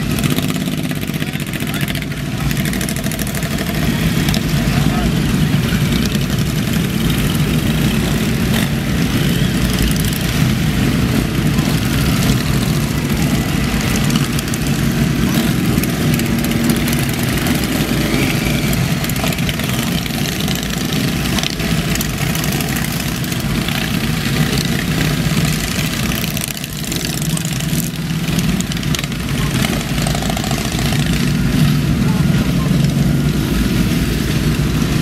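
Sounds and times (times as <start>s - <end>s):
motorcycle engines idling: 0.0s - 35.0s.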